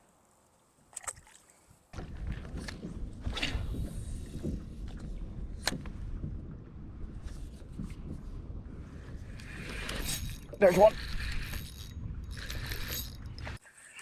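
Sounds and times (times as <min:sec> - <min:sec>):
boat rumbling on water: 0:02.0 - 0:13.6.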